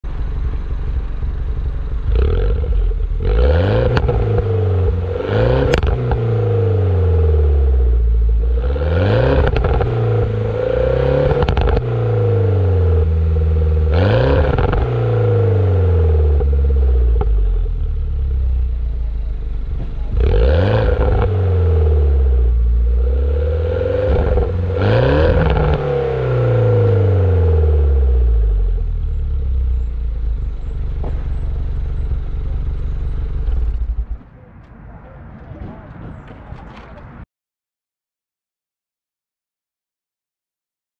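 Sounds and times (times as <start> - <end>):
car engine revving: 0.1 - 34.2.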